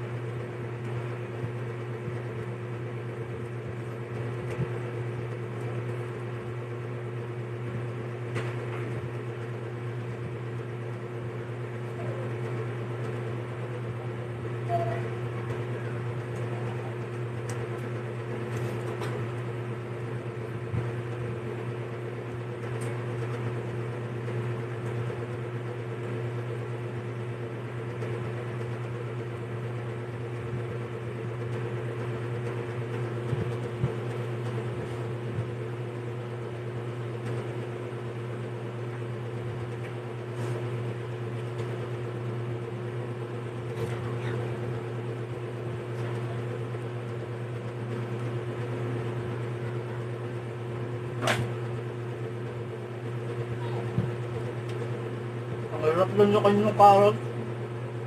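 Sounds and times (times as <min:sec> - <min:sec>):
appliance humming: 0:00.0 - 0:58.0.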